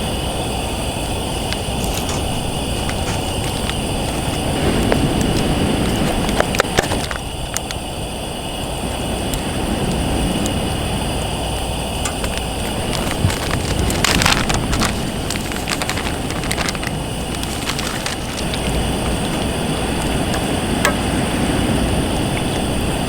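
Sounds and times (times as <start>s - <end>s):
campfire crackling: 0.0s - 23.0s
wind rumbling on microphone: 0.0s - 23.0s.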